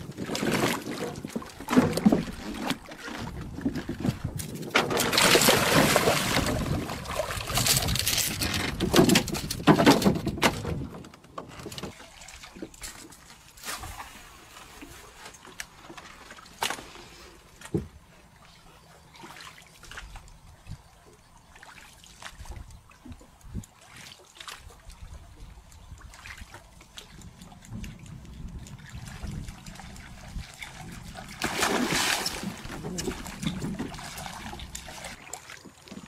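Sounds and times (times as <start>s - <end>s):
water splashing and dribbling: 0.0s - 36.0s.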